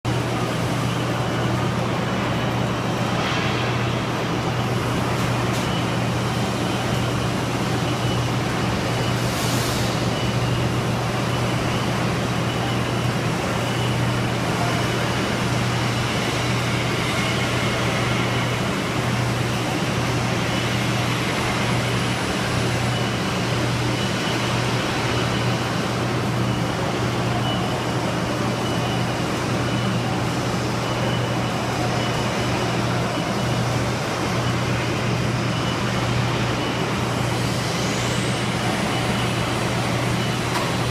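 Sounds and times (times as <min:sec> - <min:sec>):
workshop machinery hum: 0:00.0 - 0:40.9.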